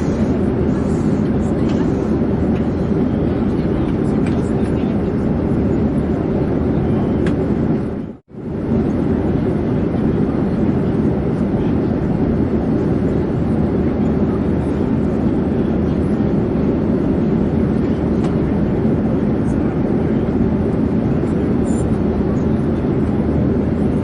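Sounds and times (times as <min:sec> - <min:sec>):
airplane drone: 0:00.0 - 0:24.0.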